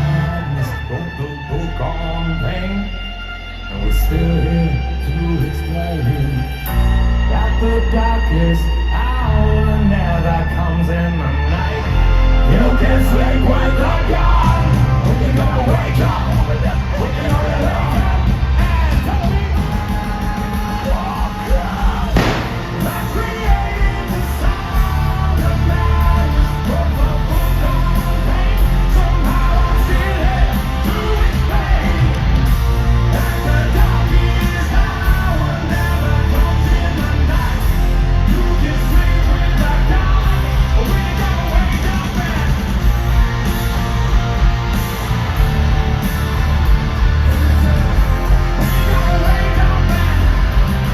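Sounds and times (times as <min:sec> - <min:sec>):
heavy bass and drums: 0:00.0 - 0:02.8, 0:03.8 - 0:50.9
distorted guitars: 0:00.0 - 0:50.9
hard rock band playing live: 0:00.0 - 0:50.9.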